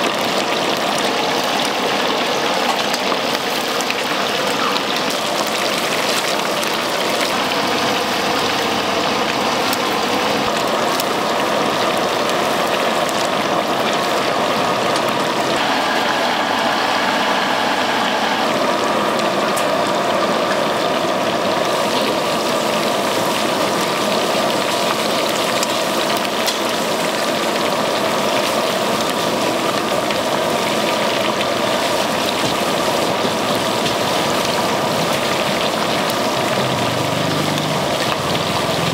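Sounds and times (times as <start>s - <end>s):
fried rice sizzling in wok: 0.0s - 38.9s.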